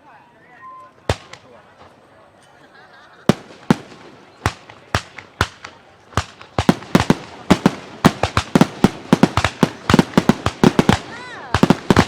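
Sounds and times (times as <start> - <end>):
fireworks bursting with bangs: 1.1 - 2.0, 3.2 - 12.0.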